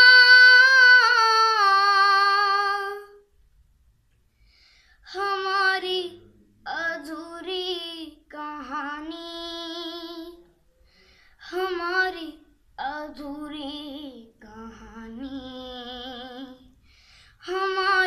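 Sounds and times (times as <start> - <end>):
boy singing a slow ballad: 0.0 - 3.2, 5.0 - 10.4, 11.4 - 16.8, 17.4 - 18.0.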